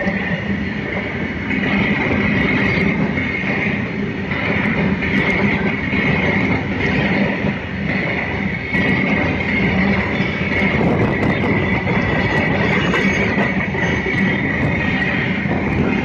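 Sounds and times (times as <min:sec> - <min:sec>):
high steady whine: 0:00.0 - 0:16.0
train wheels rumbling on rails: 0:00.0 - 0:16.0.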